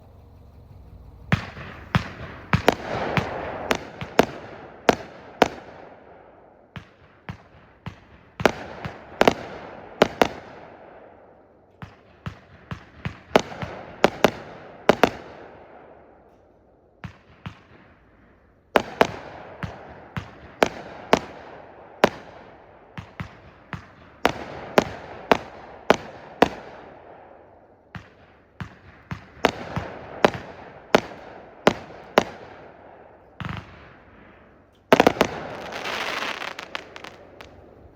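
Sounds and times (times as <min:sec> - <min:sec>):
firework bangs: 0:00.0 - 0:37.9.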